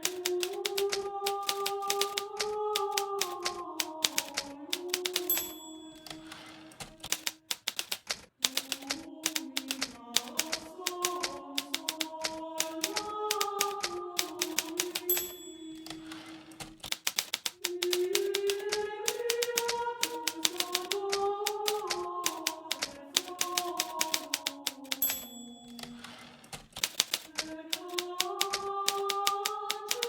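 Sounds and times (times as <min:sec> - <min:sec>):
typewriter bell ring: 0:00.0 - 0:30.0
typewriter carriage return rasp: 0:00.0 - 0:30.0
typewriter key strikes: 0:00.0 - 0:30.0.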